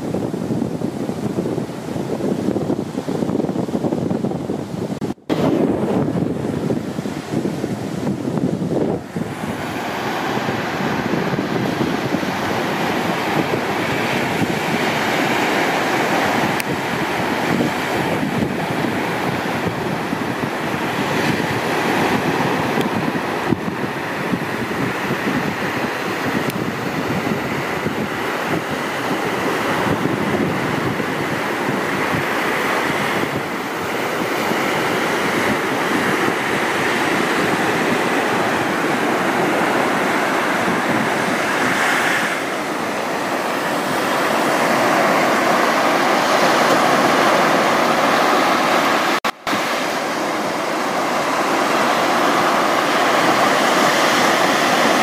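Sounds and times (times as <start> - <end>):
surf breaking on beach: 0.0 - 55.0
wind buffeting microphone: 0.0 - 55.0.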